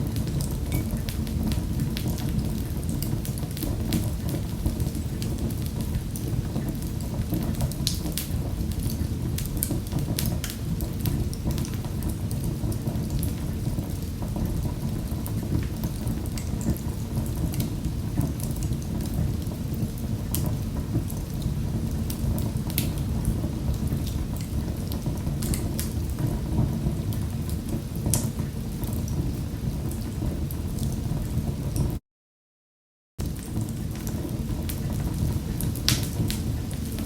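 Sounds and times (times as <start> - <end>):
wood fire crackling: 0.0 - 32.0, 33.2 - 37.0.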